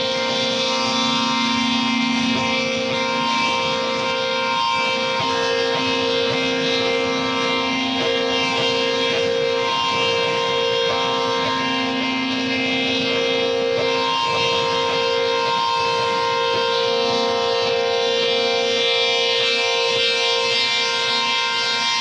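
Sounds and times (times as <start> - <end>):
droning electronic music: 0.0 - 22.0.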